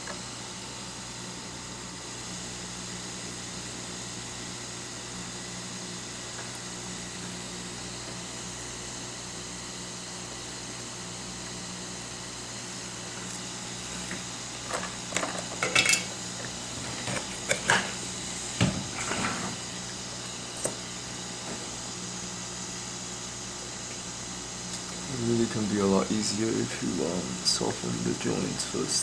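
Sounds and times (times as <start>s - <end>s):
hot-air blower humming: 0.0s - 29.0s.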